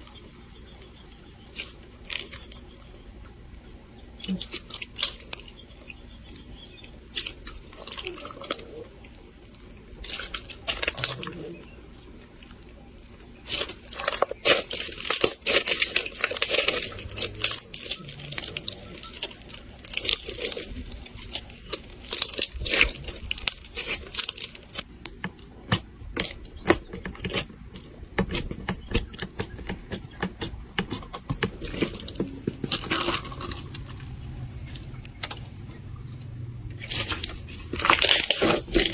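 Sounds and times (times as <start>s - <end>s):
crunchy slime crackling: 0.0s - 38.9s.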